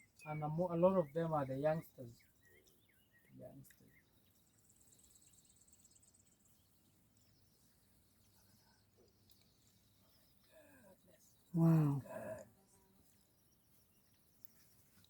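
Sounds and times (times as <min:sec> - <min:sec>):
faint high insect trill: 0:00.0 - 0:15.0.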